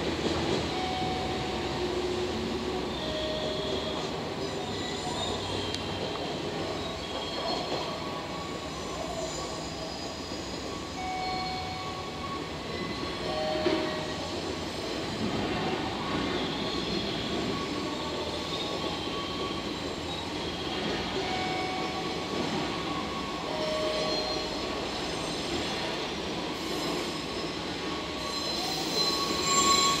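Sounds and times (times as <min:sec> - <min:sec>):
train engines and wheels rumbling: 0:00.0 - 0:30.0
wheel squeals: 0:00.6 - 0:30.0.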